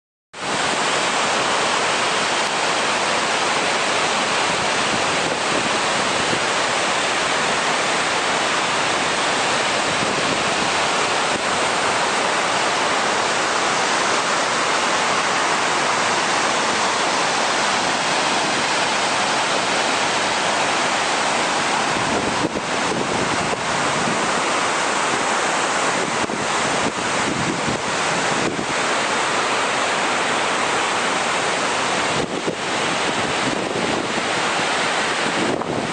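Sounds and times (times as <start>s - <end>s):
waterfall rushing: 0.4s - 35.9s.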